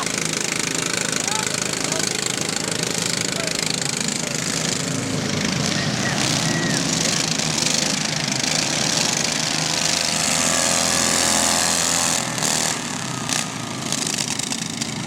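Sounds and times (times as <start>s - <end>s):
riding lawn mower engines: 0.0s - 15.0s.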